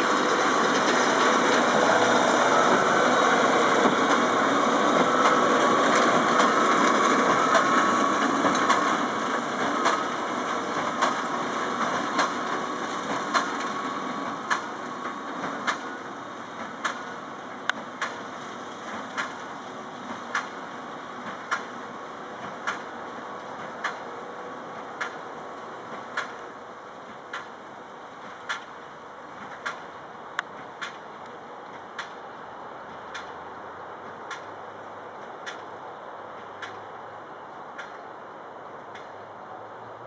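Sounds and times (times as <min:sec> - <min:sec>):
engine and machinery drone: 0:00.0 - 0:40.0.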